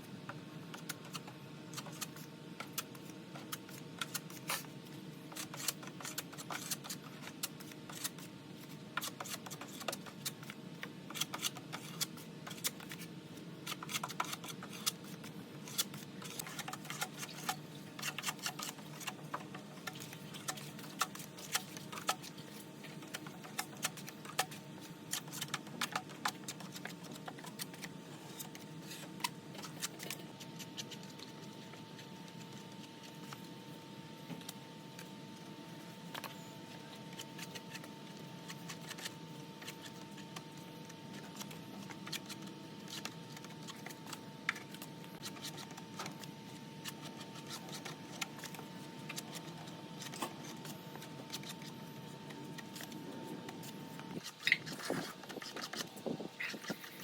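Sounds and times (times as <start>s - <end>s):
thin constant whine: 0.0s - 57.0s.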